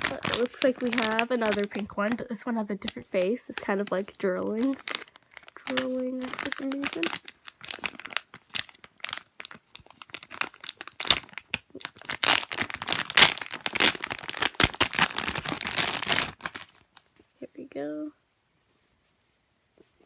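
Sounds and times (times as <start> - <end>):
plastic bag crinkling: 0.0 - 17.1.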